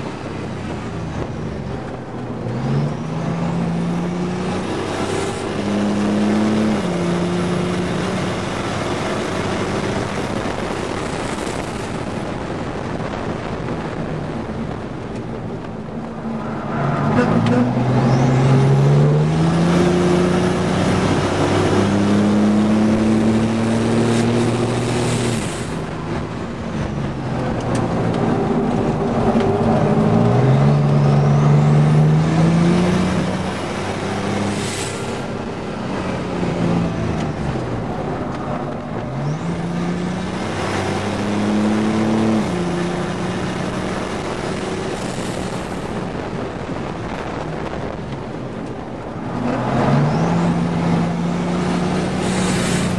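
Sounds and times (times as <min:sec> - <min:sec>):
engine accelerating and shifting: 0:00.0 - 0:52.9
wind and tyre noise: 0:00.0 - 0:52.9.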